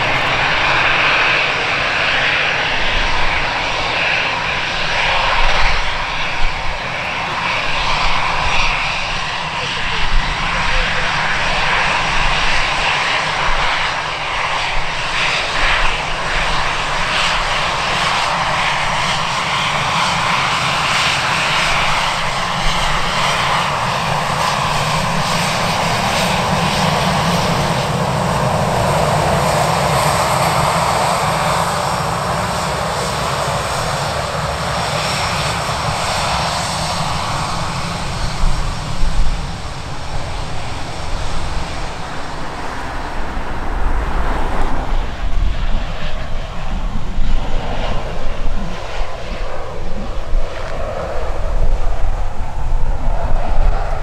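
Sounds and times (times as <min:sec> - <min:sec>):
airliner engines running: 0:00.0 - 0:54.0.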